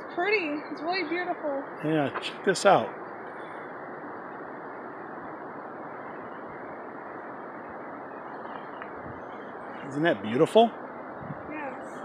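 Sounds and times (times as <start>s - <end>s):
steady outdoor background rush: 0.0s - 12.0s.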